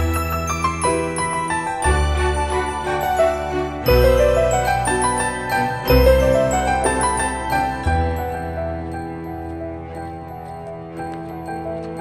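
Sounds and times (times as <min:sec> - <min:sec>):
instrumental music with sustained notes: 0:00.0 - 0:12.0.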